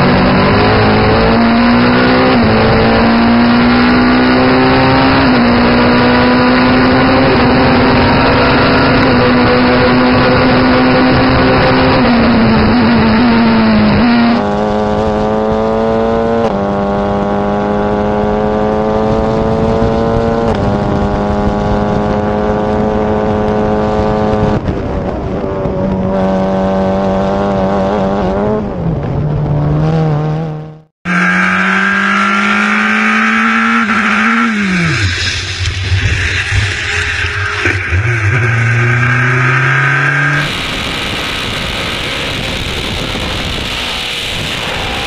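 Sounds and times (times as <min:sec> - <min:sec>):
racing car engine at high revs: 0:00.0 - 0:45.0.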